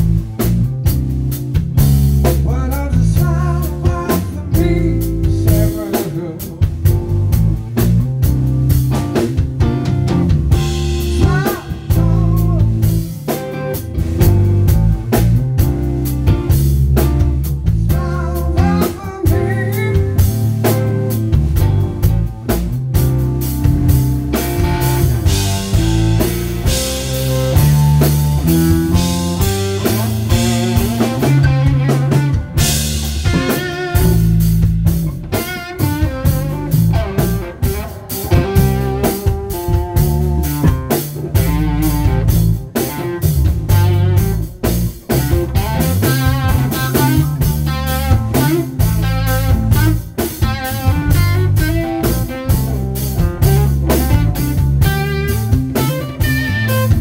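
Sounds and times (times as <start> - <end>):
bass: 0.0 - 57.0
drum kit: 0.0 - 57.0
electric guitar lead: 0.0 - 57.0.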